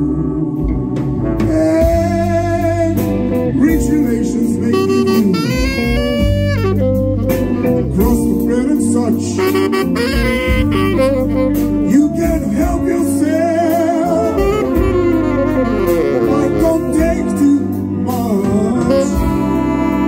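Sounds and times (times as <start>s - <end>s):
jazz band playing ballad: 0.0s - 20.0s
saxophone melody: 0.6s - 20.0s.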